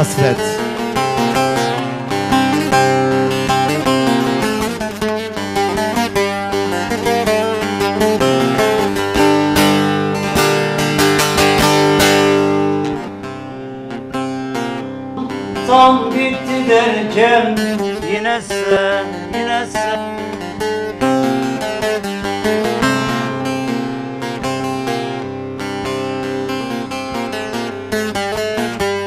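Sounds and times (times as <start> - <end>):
long-necked lute folk melody: 0.0 - 29.0.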